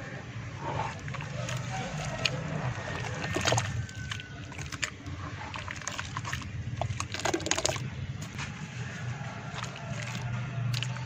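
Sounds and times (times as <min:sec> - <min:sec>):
hands squelching mud in water: 0:00.0 - 0:11.0.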